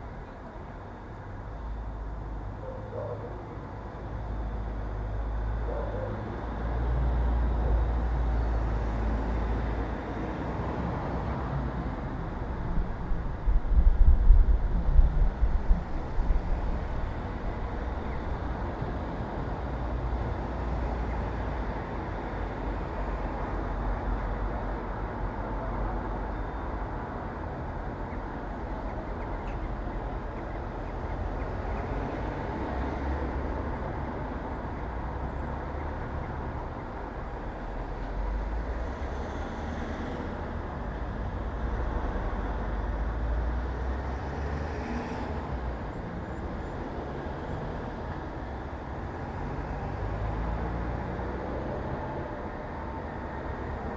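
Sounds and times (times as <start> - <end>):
rumble of passing vehicles: 0.0 - 53.9.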